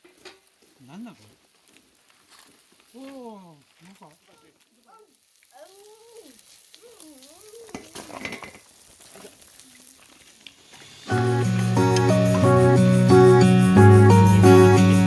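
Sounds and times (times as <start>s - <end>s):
food sizzling on a grill: 0.0s - 15.0s.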